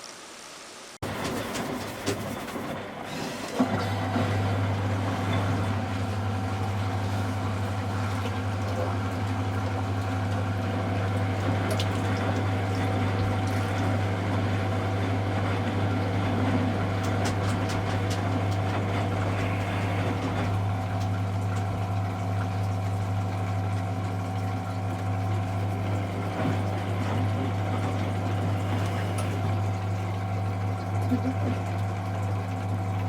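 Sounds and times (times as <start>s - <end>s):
washing machine hum: 0.0s - 33.0s
water sloshing inside machine: 1.0s - 33.0s.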